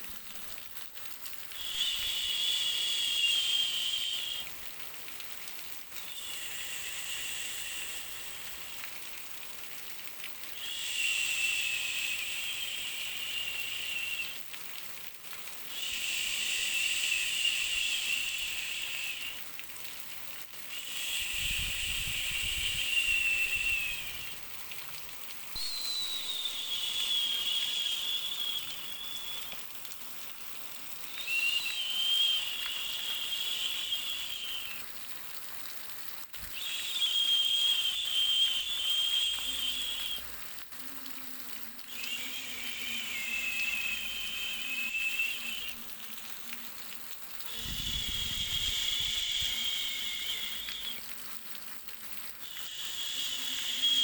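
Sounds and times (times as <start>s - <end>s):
high whistling hiss: 0.0s - 0.4s, 1.5s - 9.8s, 10.4s - 14.9s, 15.6s - 20.0s, 20.6s - 35.1s, 35.8s - 54.0s
faint steady hiss: 0.0s - 54.0s.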